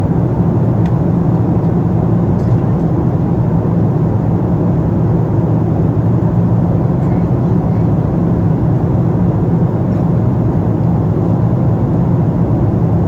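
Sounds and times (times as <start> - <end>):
airliner cabin engine drone: 0.0 - 13.0.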